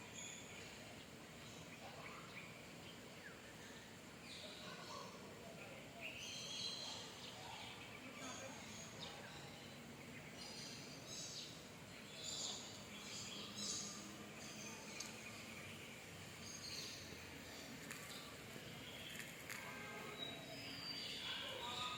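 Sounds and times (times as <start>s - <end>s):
birds chirping: 0.0s - 21.9s
outdoor background hiss: 0.0s - 21.9s.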